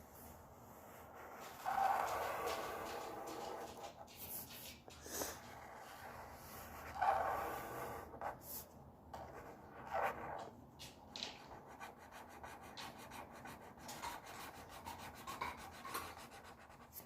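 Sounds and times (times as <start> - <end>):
pen scratching on paper: 0.8 - 10.5, 11.5 - 17.0.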